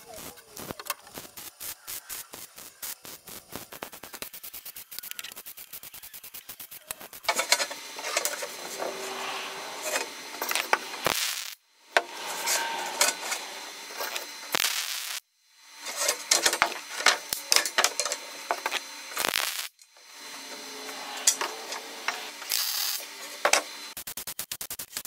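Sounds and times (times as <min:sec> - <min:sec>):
welding crackle: 0:00.0 - 0:15.2, 0:15.8 - 0:25.0.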